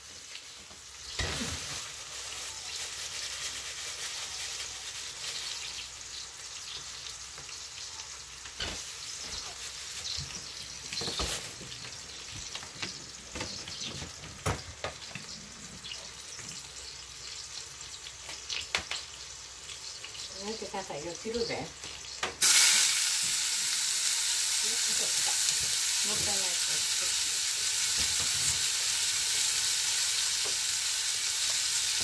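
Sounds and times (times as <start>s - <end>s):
patties sizzling in a frying pan: 0.0s - 32.0s.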